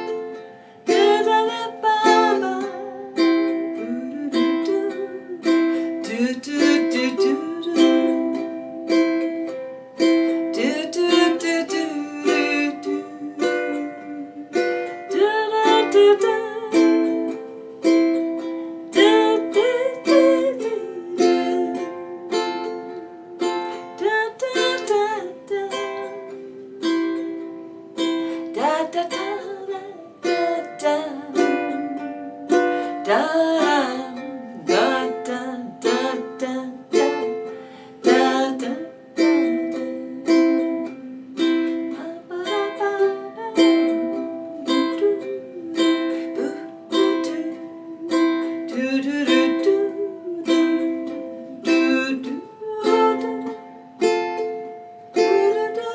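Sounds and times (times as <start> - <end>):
person humming a melody: 0.0 - 55.9
ukulele strumming: 0.0 - 55.9.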